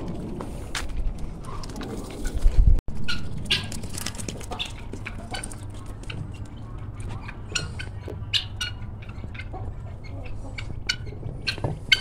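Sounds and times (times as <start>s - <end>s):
birds chirping and calling: 0.5s - 12.0s.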